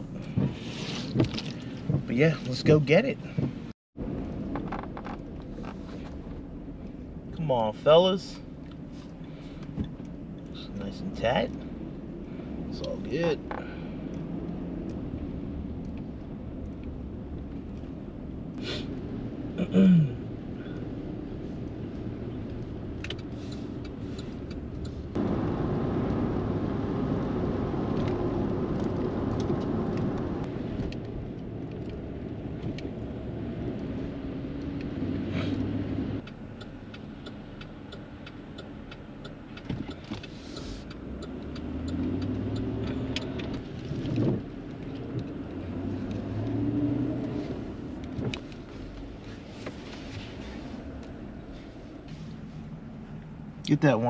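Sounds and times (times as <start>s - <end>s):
car engine: 0.0s - 54.0s
road noise on wet road: 0.0s - 54.0s.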